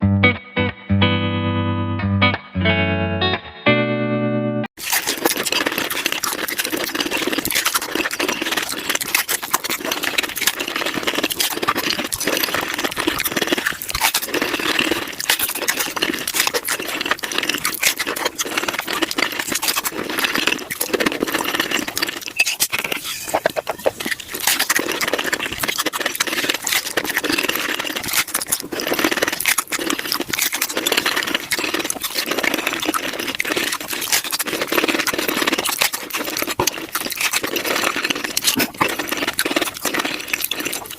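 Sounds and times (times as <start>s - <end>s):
crunchy chewing: 4.8s - 40.9s.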